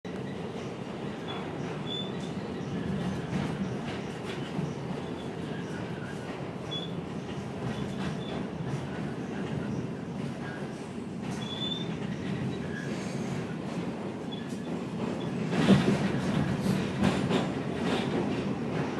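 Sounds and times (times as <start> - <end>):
subway car rumble: 0.1 - 18.9.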